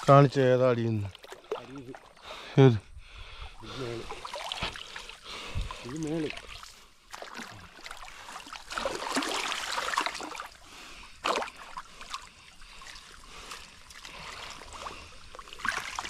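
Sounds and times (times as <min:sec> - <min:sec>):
water splashing and trickling: 0:00.0 - 0:02.6, 0:03.2 - 0:16.0.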